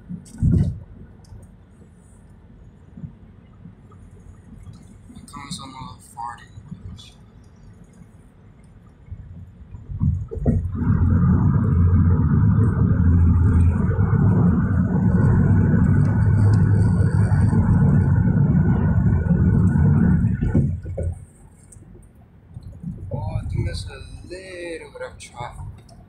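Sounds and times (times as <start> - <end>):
car road rumble: 0.0 - 26.0.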